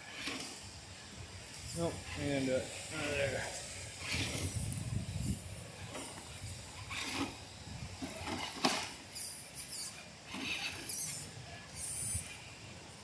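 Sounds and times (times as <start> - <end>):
rc car rumbling over rocks: 0.0 - 13.0.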